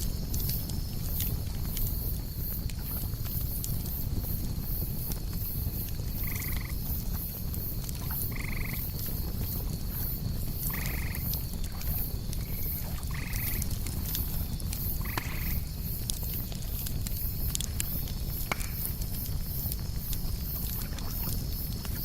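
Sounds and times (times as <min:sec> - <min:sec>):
campfire crackling and popping: 0:00.0 - 0:22.0
crickets chirping: 0:00.0 - 0:22.0.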